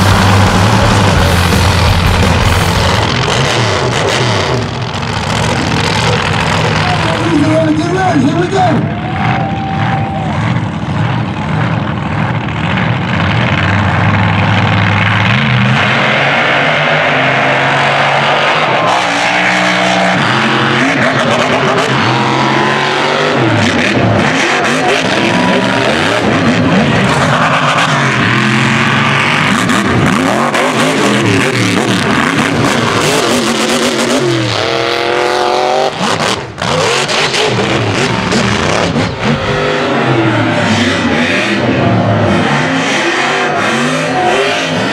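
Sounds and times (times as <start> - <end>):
truck engine revving: 0.0 - 44.9.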